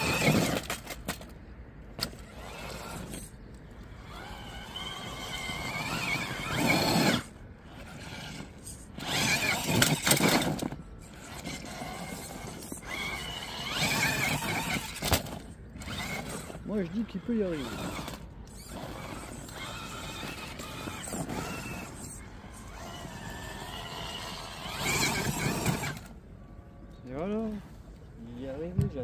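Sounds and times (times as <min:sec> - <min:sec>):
electric motor whining: 0:00.0 - 0:01.0, 0:02.0 - 0:26.2.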